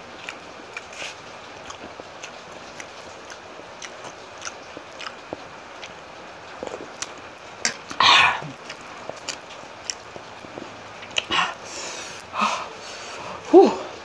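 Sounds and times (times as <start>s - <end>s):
wet mouth clicks and chewing: 0.2s - 11.6s.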